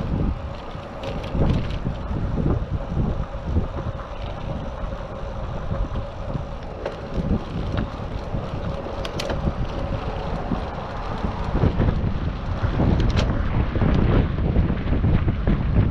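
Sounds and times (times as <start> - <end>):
bicycle clicks: 0.0 - 15.9
wind buffeting microphone: 0.0 - 15.9.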